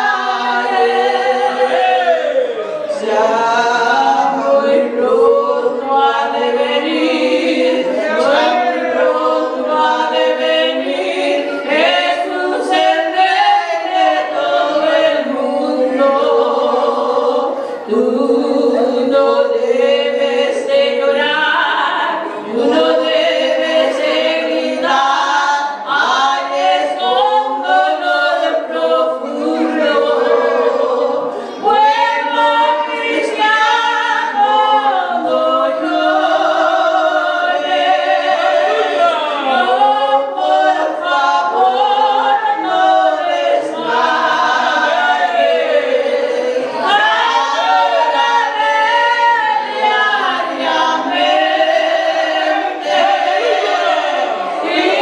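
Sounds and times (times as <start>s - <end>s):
women singing a hymn duet: 0.0s - 55.0s.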